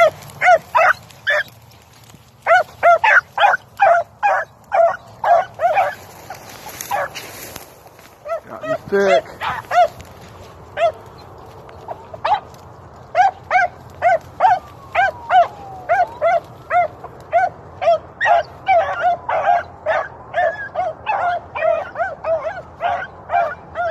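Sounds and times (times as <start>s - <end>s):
dogs barking: 0.0s - 23.9s.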